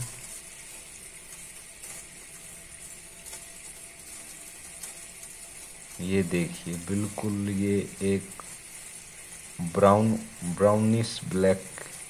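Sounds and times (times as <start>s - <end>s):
syrup sizzling and crackling: 0.0s - 12.0s.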